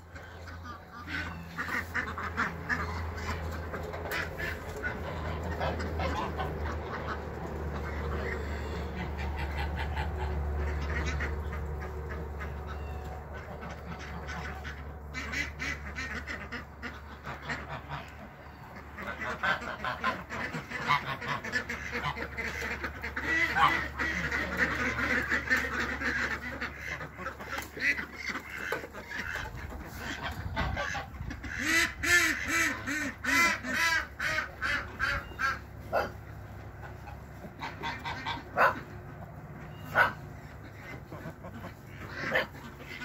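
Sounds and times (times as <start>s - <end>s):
ducks quacking: 0.0s - 43.0s
low steady rumble: 0.0s - 43.0s.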